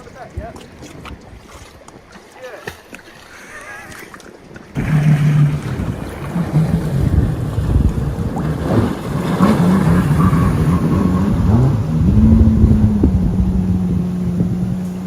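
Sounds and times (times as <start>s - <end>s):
small boat engine: 0.0s - 15.0s
wind and water rumble: 0.0s - 15.0s.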